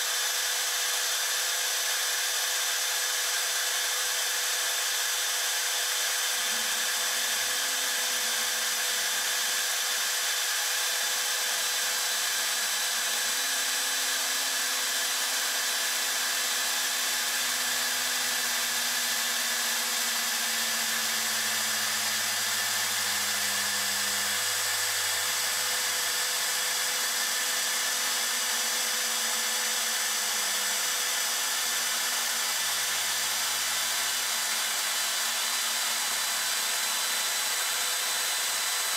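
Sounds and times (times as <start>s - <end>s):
router whining while cutting: 0.0s - 38.9s.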